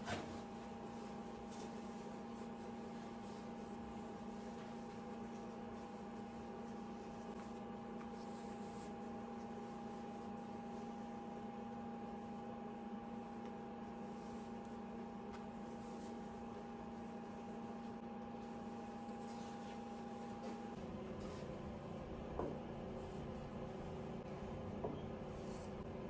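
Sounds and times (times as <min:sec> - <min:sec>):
appliance low hum: 0:00.0 - 0:26.0.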